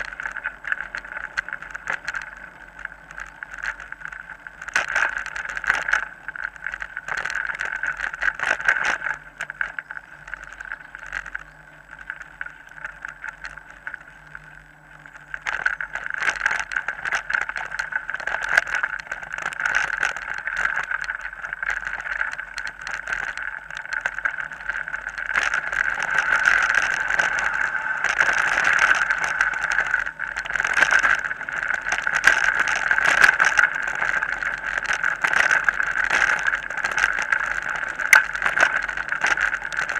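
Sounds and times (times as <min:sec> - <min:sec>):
bike rattling over bumps: 0:00.0 - 0:39.9
mountain bike riding on dirt: 0:00.0 - 0:39.9.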